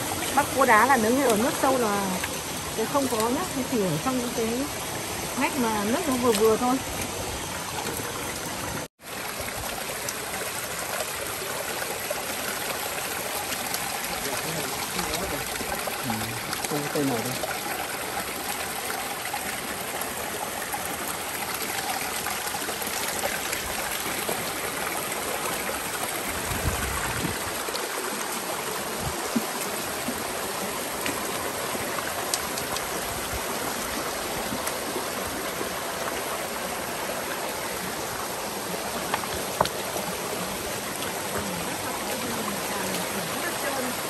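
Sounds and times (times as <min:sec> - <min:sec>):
stream running over rocks: 0:00.0 - 0:44.0.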